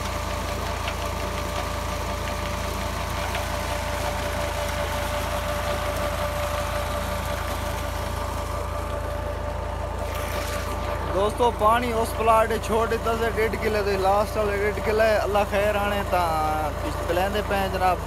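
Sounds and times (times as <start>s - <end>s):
diesel engine low drone: 0.0s - 18.0s
steady whine of water pump: 0.0s - 18.0s.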